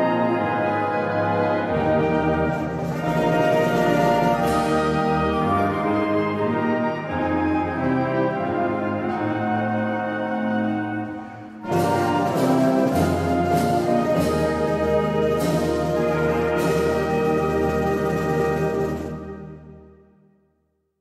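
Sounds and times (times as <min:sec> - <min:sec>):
brass and woodwind band chords: 0:00.0 - 0:20.2.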